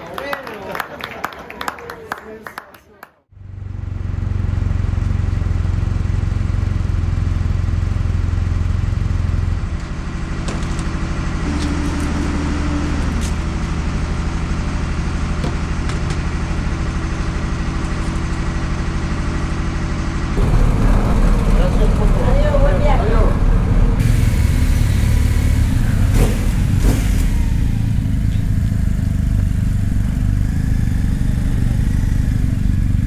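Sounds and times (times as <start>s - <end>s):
vehicle engine running: 3.3s - 33.0s.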